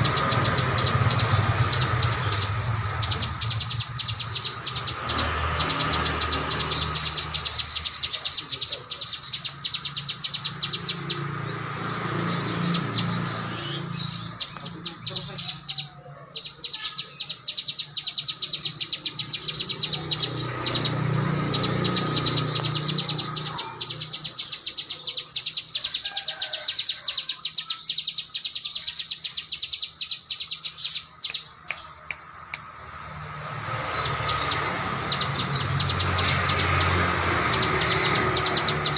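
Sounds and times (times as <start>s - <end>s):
small songbird singing rapid notes: 0.0s - 38.9s.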